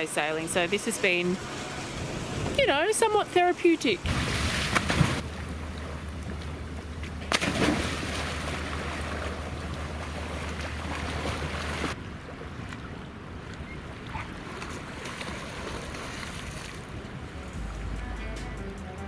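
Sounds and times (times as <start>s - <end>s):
water rushing past a boat: 0.0s - 18.4s.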